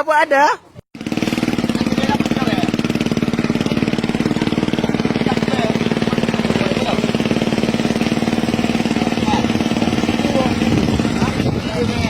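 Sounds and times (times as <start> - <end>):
motorcycle engine running: 1.0 - 12.0.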